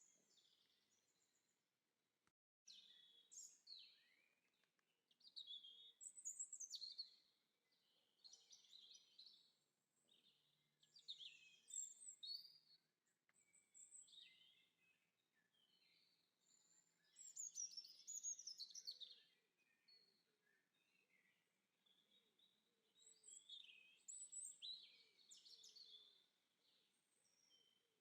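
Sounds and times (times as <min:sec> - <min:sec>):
songbird chirps and warbles: 0:00.0 - 0:28.0.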